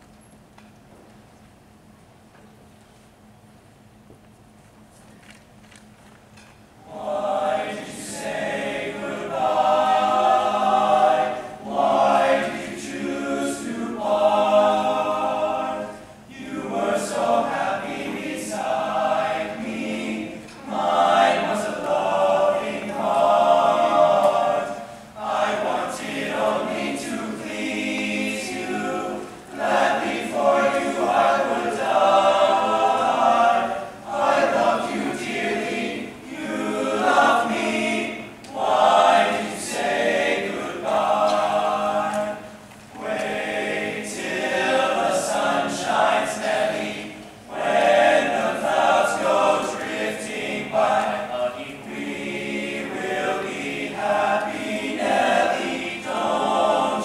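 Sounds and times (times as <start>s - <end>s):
men's choir singing: 6.8s - 57.0s.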